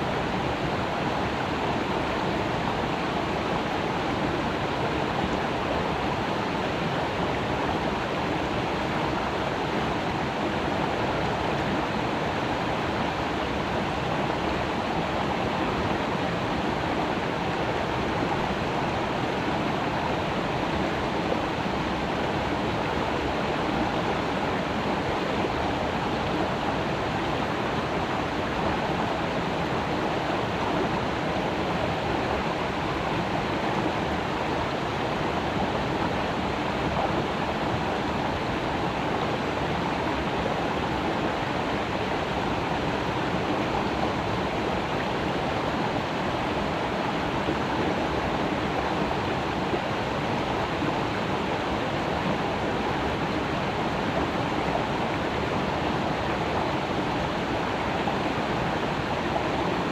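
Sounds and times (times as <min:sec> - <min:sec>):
creek water babbling: 0:00.0 - 0:59.9.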